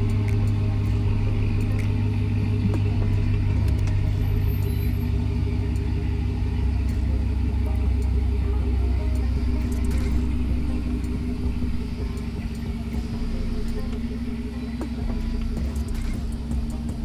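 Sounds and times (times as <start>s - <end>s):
pickup truck engine humming: 0.0s - 17.0s.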